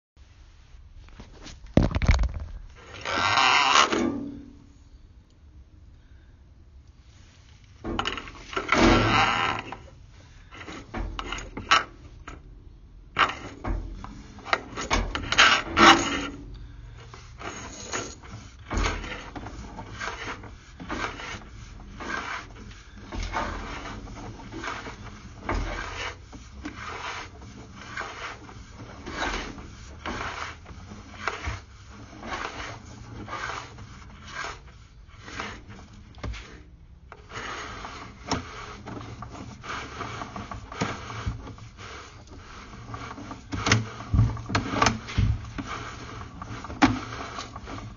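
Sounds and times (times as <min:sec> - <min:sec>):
camera rod scraping in pipe: 0:01.1 - 0:04.5, 0:07.4 - 0:12.4, 0:13.2 - 0:47.9.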